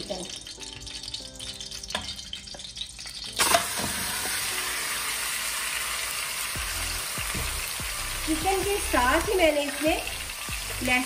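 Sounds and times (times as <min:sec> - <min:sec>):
chicken sizzling in hot oil: 0:00.0 - 0:11.0
frying hiss: 0:00.0 - 0:11.0.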